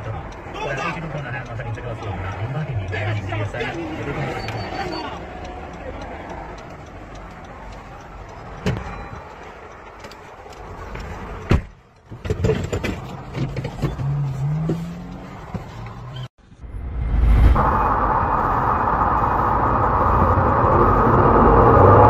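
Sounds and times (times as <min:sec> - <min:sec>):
highway traffic hum: 0:00.0 - 0:22.0.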